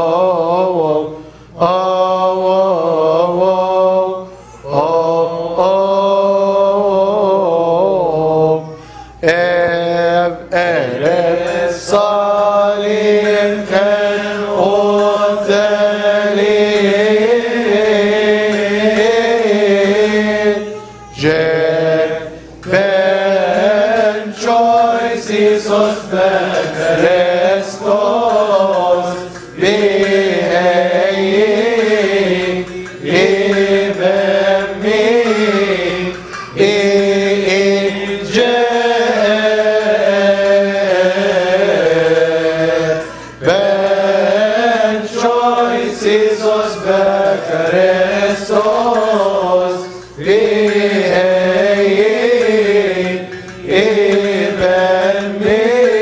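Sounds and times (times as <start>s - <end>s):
liturgical chant: 0.0s - 56.0s.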